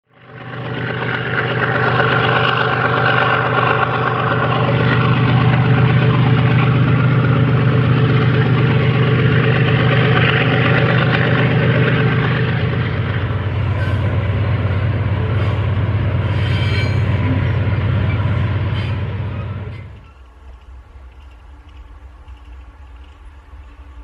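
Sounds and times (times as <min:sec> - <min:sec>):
locomotive diesel engine drone: 0:00.0 - 0:24.0.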